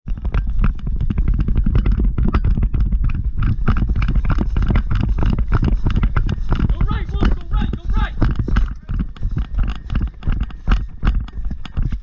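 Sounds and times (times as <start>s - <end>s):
rapid footsteps: 0.0s - 12.0s
gear clattering: 0.1s - 12.0s
heavy low rumble: 0.1s - 12.0s.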